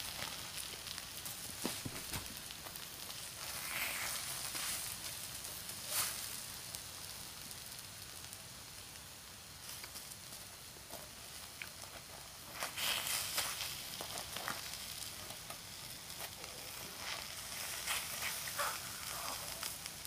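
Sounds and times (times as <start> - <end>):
batter sizzling on hot plate: 0.0 - 20.0.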